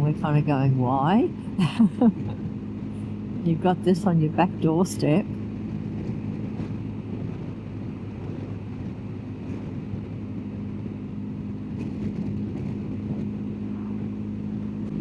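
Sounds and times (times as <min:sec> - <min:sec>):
motorcycle engine cruising: 0:00.0 - 0:15.0
road and wind noise: 0:00.0 - 0:15.0.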